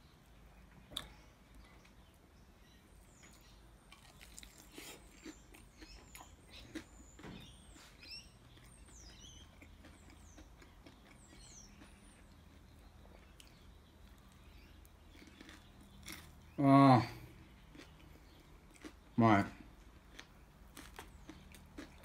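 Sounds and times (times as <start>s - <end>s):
faint high bird chirps: 0.0s - 18.5s
crunchy chewing: 3.0s - 22.0s.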